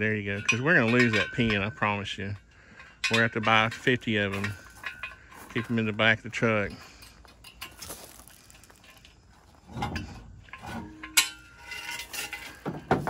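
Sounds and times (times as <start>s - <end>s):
steel parts clanking and scraping: 0.0s - 13.0s.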